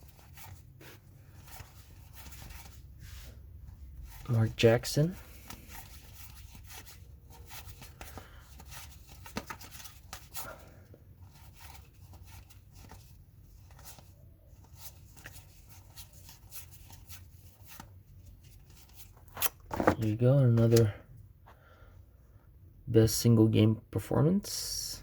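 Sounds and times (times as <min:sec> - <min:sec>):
trading cards rustling: 0:00.0 - 0:20.9.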